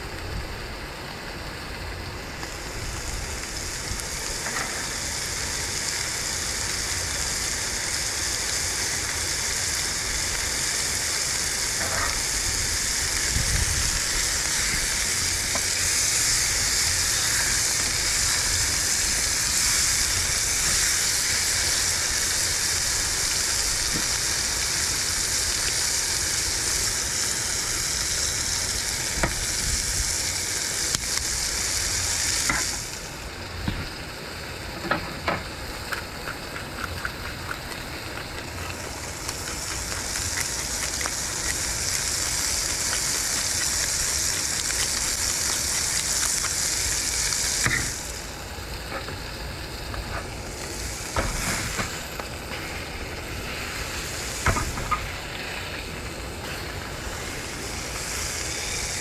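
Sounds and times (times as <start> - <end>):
food sizzling in a hot pan: 0.0 - 59.0.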